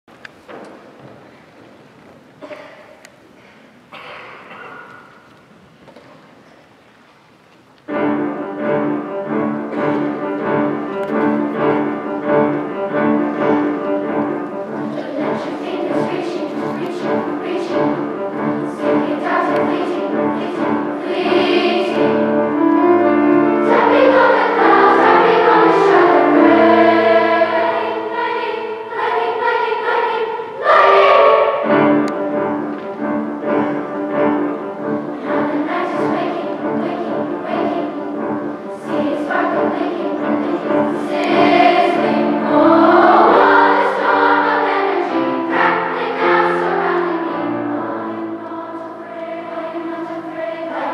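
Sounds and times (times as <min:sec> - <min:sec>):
children's choir singing: 0:07.9 - 0:50.9
grand piano pulsing pattern: 0:07.9 - 0:50.9.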